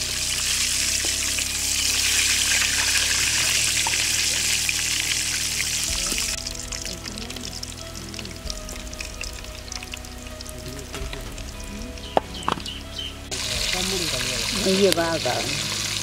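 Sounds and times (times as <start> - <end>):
chicken deep-frying in oil: 0.0 - 12.4, 13.3 - 16.0
background music with low notes: 0.0 - 16.0.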